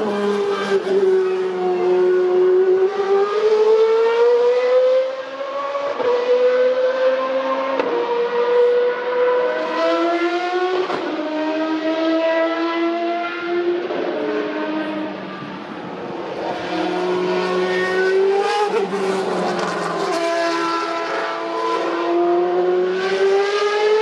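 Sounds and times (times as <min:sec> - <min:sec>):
racing car engine at high revs: 0:00.0 - 0:24.0.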